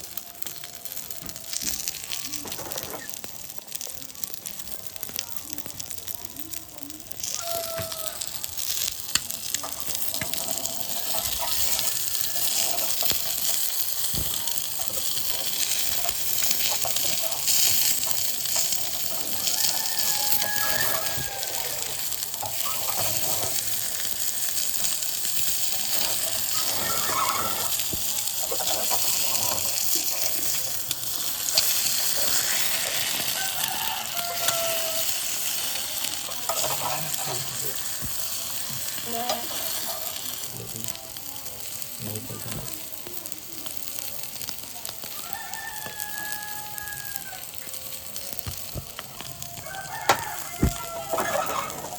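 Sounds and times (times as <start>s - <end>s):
eggs sizzling in a pan: 0.0s - 51.9s.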